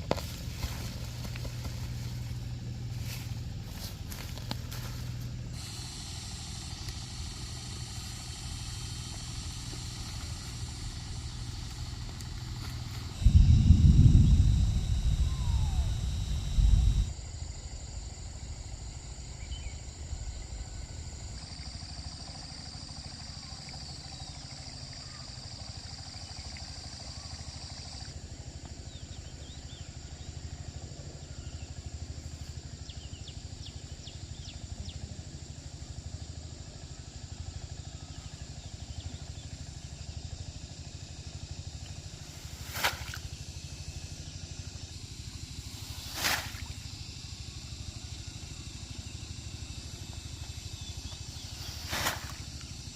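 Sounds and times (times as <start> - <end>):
high insect drone: 0.0 - 52.9
small engine rumbling: 0.0 - 52.9.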